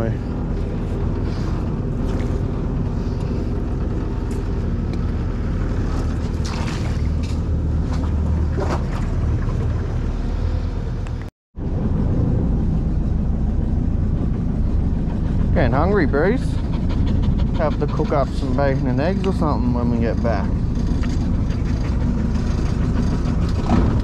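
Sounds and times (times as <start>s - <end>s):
outboard motor idling: 0.0s - 11.3s, 12.4s - 24.0s.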